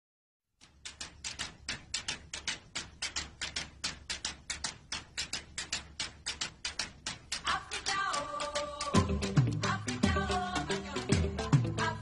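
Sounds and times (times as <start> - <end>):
rapid sharp clicking: 0.6 - 11.8.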